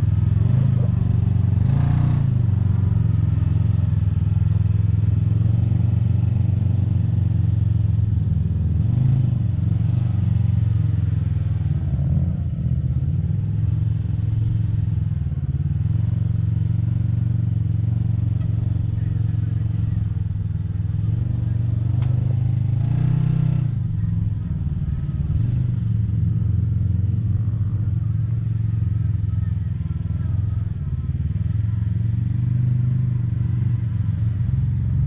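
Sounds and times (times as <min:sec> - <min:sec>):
engine running under load: 0:00.0 - 0:35.0.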